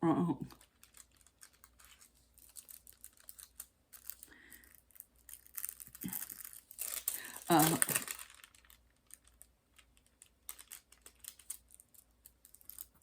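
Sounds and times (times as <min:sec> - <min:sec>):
plastic film crinkling: 0:00.4 - 0:13.0.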